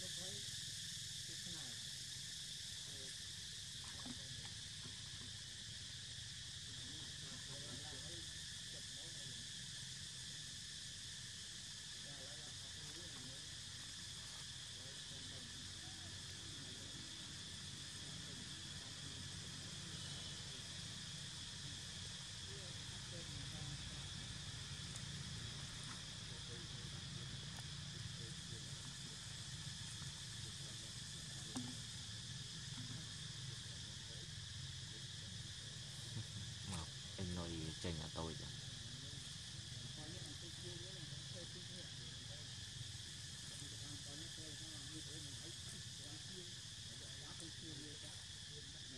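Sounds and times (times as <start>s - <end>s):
insects buzzing chorus: 0.0s - 48.9s.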